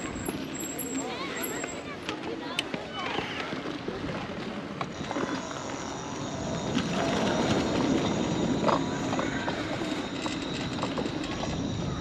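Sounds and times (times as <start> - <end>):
scooter rattling over bumps: 0.0 - 12.0
scooter tyres rolling on concrete: 0.0 - 12.0.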